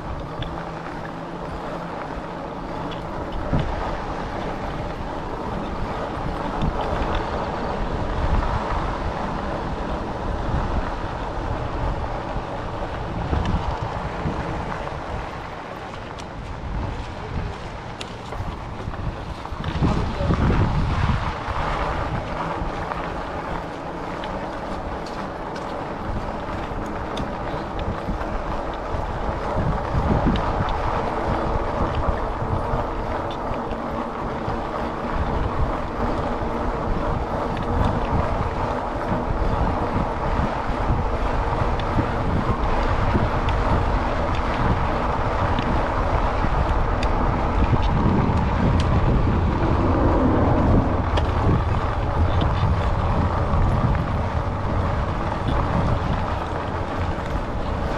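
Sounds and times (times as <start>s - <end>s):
low hum and rolling noise: 0.0s - 57.9s
wind rushing over camera: 0.0s - 57.9s.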